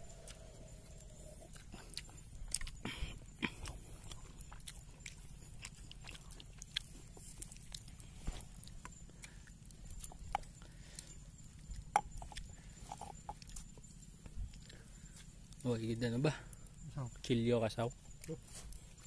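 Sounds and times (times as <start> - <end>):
chewing: 0.0 - 16.9, 17.9 - 19.0.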